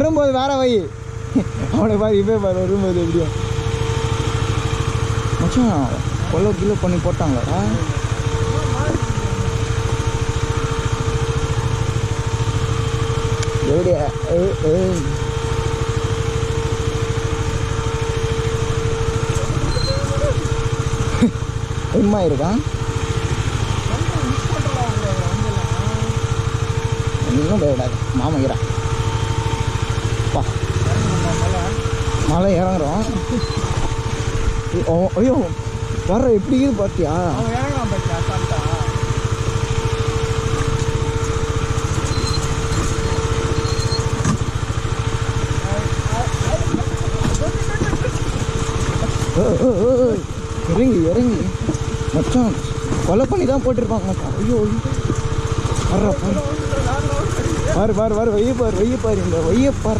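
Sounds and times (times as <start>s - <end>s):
motorcycle engine running: 0.0s - 59.9s
thin steady whine: 1.6s - 59.9s.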